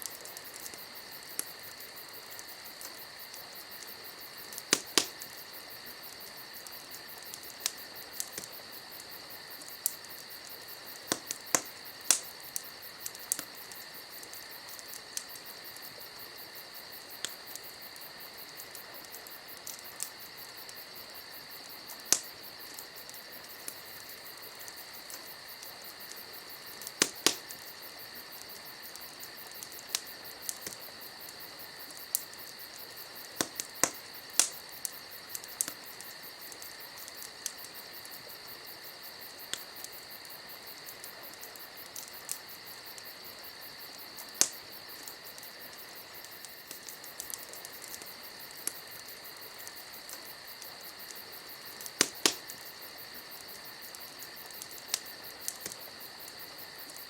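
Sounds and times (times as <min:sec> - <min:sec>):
campfire crackling and popping: 0:00.0 - 0:57.0
crickets chirping: 0:00.0 - 0:57.0.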